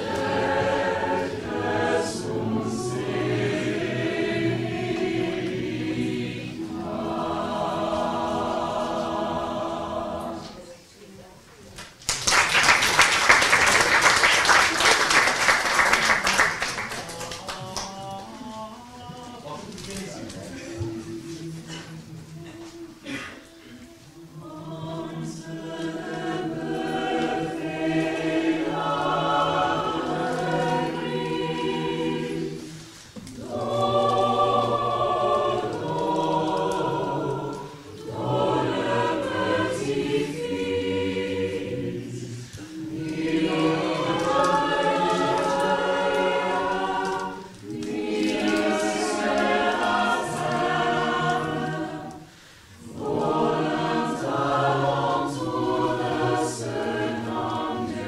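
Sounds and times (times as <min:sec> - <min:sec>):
mixed choir singing in harmony: 0:00.0 - 0:11.0, 0:13.2 - 0:58.0.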